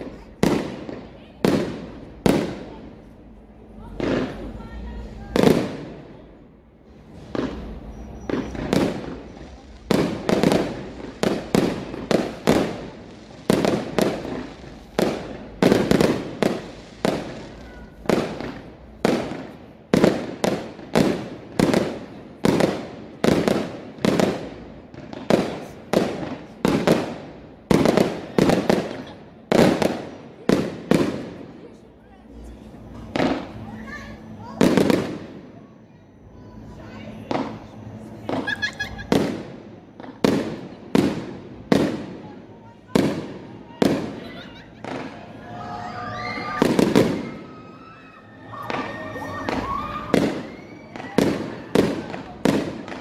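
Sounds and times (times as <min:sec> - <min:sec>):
fireworks bursting with loud bangs: 0:00.0 - 0:35.6, 0:36.2 - 0:53.0.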